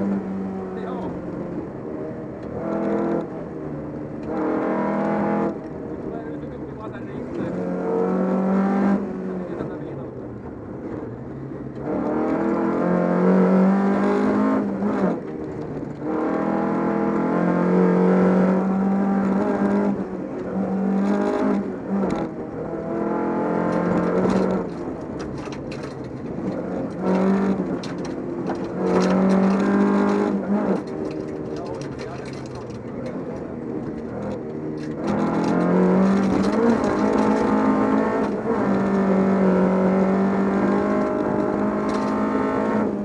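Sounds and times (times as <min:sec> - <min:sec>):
car engine revving hard: 0:04.2 - 0:05.7, 0:07.2 - 0:09.7, 0:11.8 - 0:15.3, 0:16.0 - 0:43.0.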